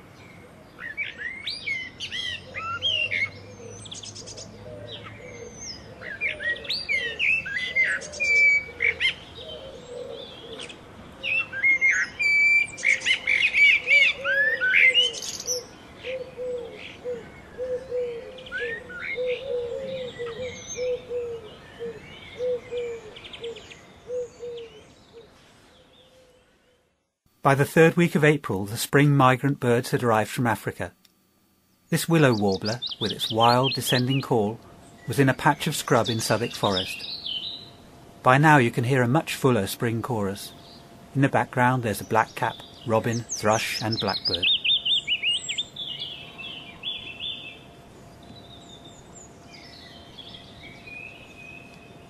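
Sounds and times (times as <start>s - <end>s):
blackbird singing: 0.0s - 26.8s, 31.9s - 52.0s.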